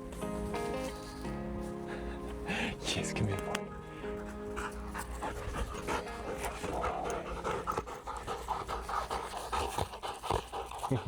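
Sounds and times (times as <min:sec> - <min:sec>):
dog panting: 0:00.2 - 0:11.0.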